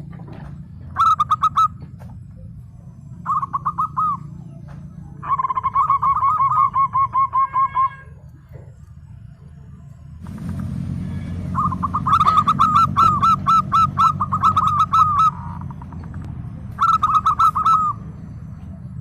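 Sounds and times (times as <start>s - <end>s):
dove cooing: 0.0s - 9.2s, 11.2s - 19.0s
low steady hum: 0.0s - 19.0s.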